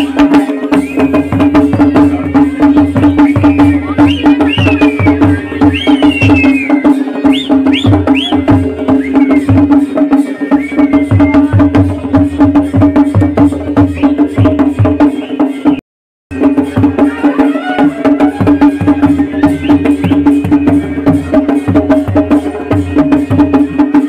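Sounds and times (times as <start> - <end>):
rapid drumming: 0.0 - 24.0.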